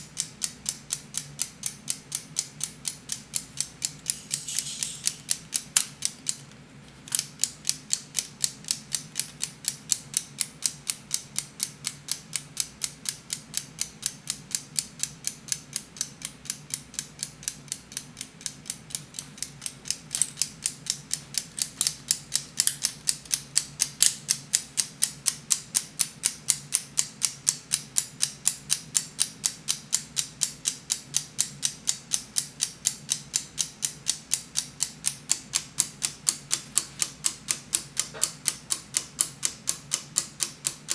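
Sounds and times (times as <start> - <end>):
plastic escapement ticking: 0.0 - 6.5, 7.1 - 40.9.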